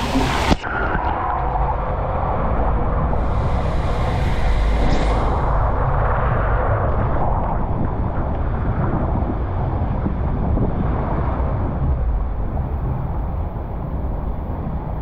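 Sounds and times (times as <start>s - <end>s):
heavy low rumble: 0.0s - 15.0s.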